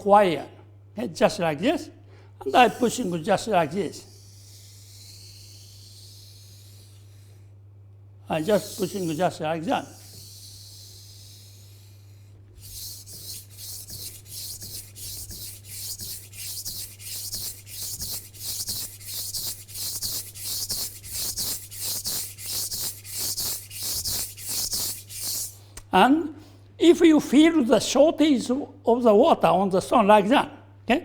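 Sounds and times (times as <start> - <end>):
steady low hum: 0.0 - 26.7.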